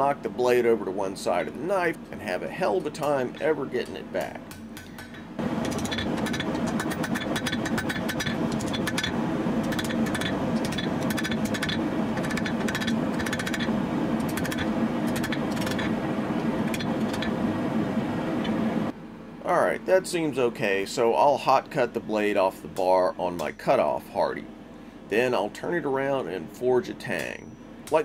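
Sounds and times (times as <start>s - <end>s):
loud steady mechanical roar: 0.0s - 28.0s.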